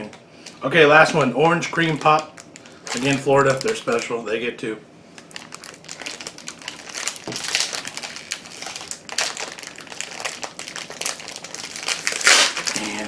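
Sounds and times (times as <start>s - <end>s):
plastic bag crinkling: 0.0s - 4.4s, 5.1s - 13.0s.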